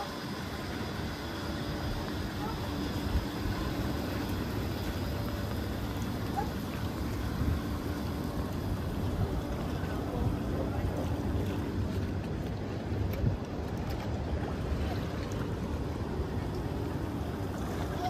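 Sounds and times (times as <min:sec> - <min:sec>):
bubbling churning water: 0:00.0 - 0:18.0
low pump hum: 0:00.0 - 0:18.0.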